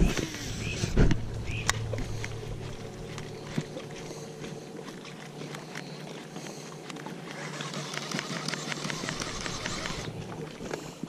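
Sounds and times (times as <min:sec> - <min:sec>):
steady low hum: 0:00.0 - 0:11.0
water lapping against boat hull: 0:00.0 - 0:11.0.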